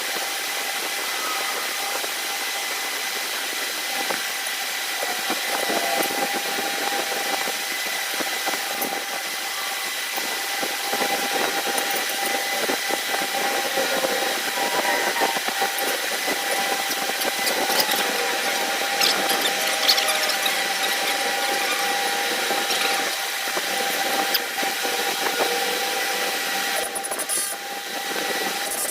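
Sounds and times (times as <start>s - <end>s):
machine motor whining: 0.1s - 28.9s.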